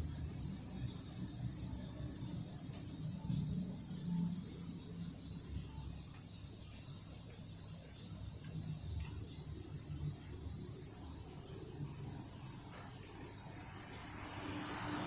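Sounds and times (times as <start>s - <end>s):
cicadas pulsing drone: 0.0s - 15.0s.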